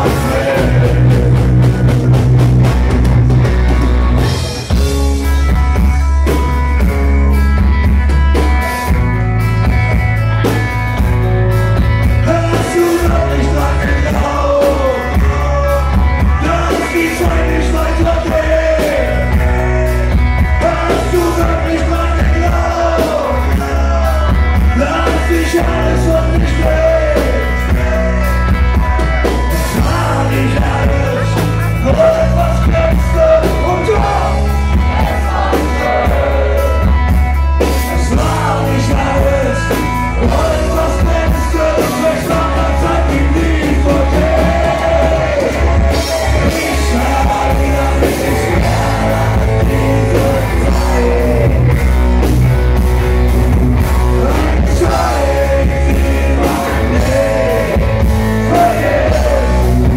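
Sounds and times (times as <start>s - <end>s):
man singing: 0.0s - 2.4s, 12.0s - 37.0s, 37.6s - 52.3s, 53.9s - 59.9s
live rock band playing: 0.0s - 59.9s.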